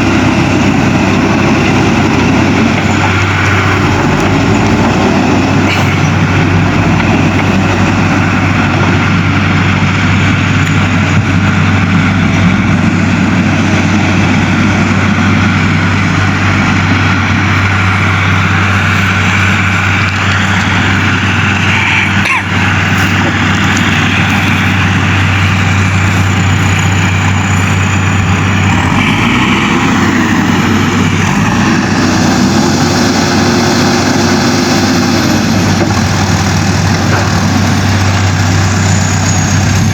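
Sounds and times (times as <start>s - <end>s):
diesel engine of backhoe loader: 0.0s - 39.9s.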